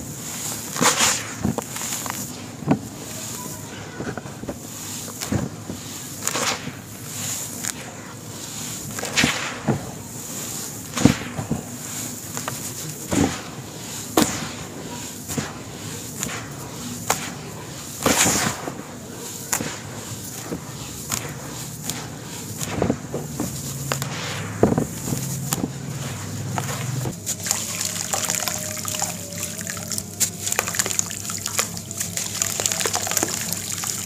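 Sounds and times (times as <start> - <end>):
grains pouring and sliding: 0.0 - 34.0
sand crunching and crackling: 0.0 - 34.0.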